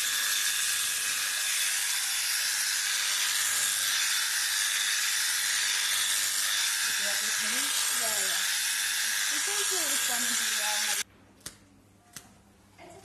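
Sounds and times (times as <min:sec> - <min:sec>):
electric shearing clippers buzzing: 0:00.0 - 0:11.1.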